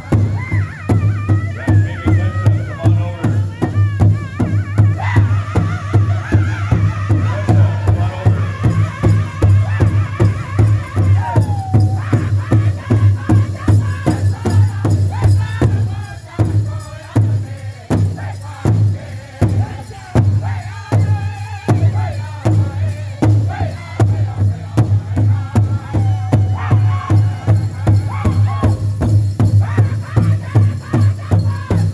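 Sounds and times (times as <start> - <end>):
big drum steady beat: 0.0 - 31.9
high-pitched group singing: 0.0 - 31.9.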